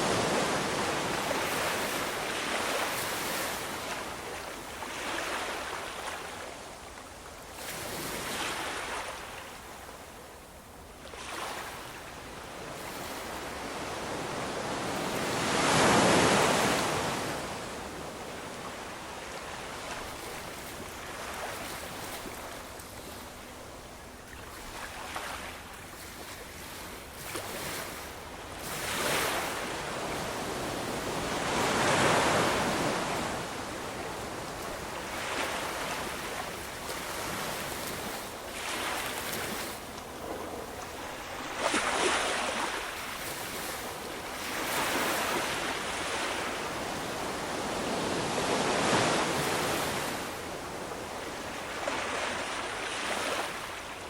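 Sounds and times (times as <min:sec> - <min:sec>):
ocean waves breaking on shore: 0:00.0 - 0:10.1, 0:10.9 - 0:54.0.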